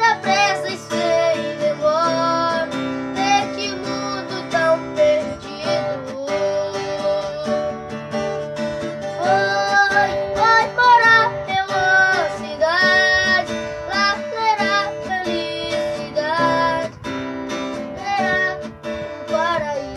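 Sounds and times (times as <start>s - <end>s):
high voice singing: 0.0s - 8.4s, 9.0s - 19.9s
strummed acoustic guitar: 0.0s - 19.9s.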